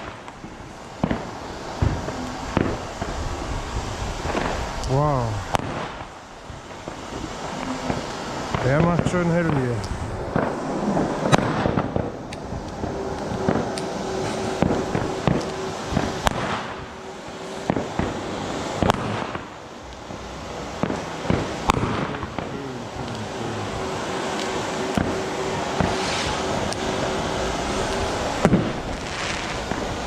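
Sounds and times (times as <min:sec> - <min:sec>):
firecracker bangs: 0:00.0 - 0:19.6, 0:20.7 - 0:30.0
fireworks crackling: 0:00.0 - 0:30.0.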